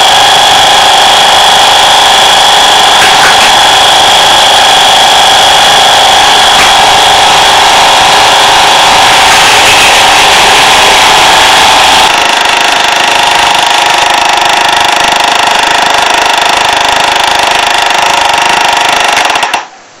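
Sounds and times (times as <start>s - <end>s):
toy train motor whirring: 0.0s - 19.7s.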